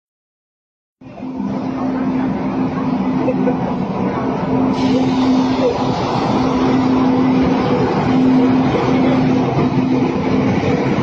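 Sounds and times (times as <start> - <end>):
train rushing and rattling past: 1.0 - 11.0.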